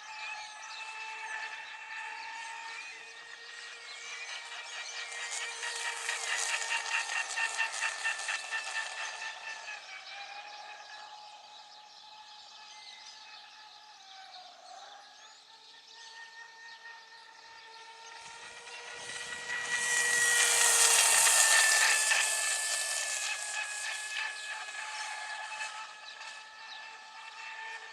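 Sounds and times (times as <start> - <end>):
rc boat motor whine: 0.0 - 27.9.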